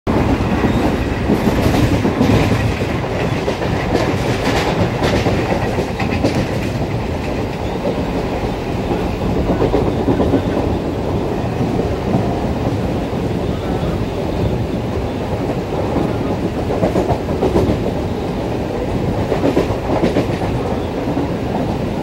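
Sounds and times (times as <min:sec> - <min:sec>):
rail-joint clicks: 0:00.1 - 0:13.1, 0:13.7 - 0:22.0
train wheels rumbling on rails: 0:00.1 - 0:22.0.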